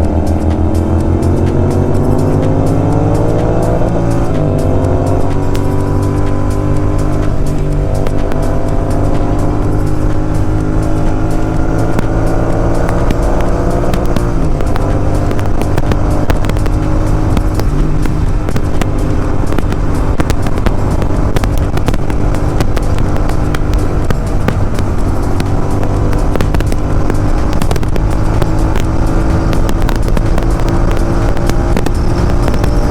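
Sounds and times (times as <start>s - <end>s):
exhaust crackles and pops: 0.0s - 32.9s
motorcycle engine revving: 0.0s - 32.9s.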